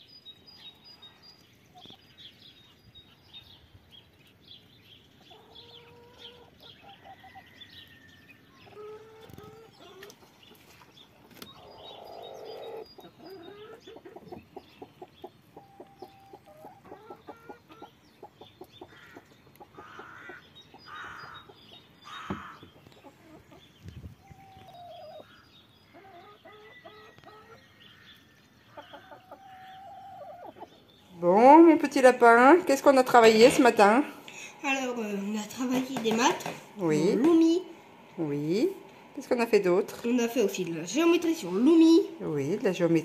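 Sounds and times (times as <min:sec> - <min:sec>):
hens clucking: 0:05.1 - 0:07.5, 0:08.6 - 0:43.0.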